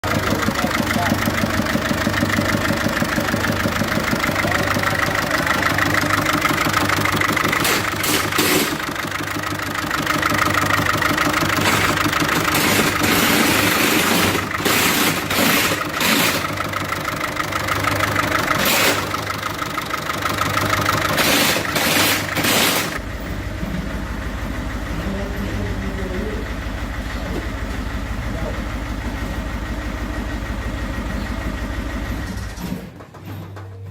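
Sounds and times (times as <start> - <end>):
diesel engine idling roughly: 0.0 - 33.9.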